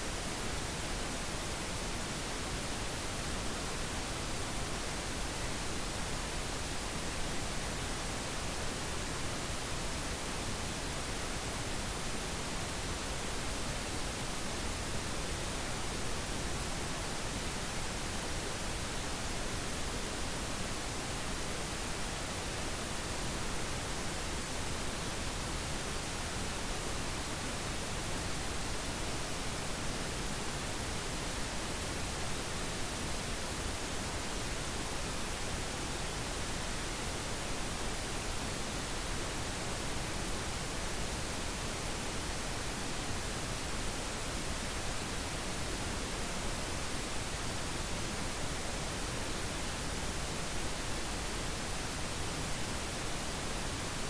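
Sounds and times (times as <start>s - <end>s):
steady pink noise hiss: 0.0s - 54.0s.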